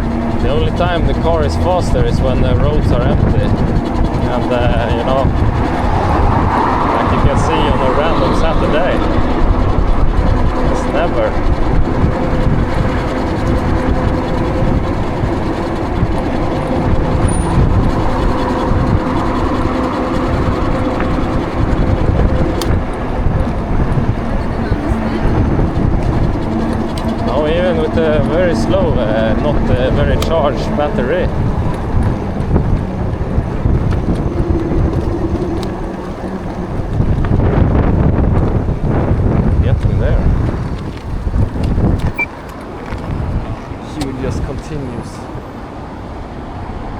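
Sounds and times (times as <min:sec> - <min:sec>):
steady whine: 0:00.0 - 0:45.2
wind rumbling on microphone: 0:00.0 - 0:46.9.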